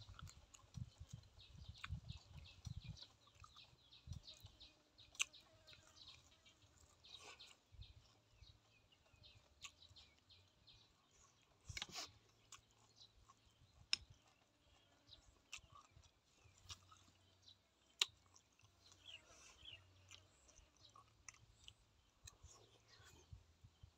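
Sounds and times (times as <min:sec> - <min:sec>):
person chewing: 0:00.0 - 0:23.9.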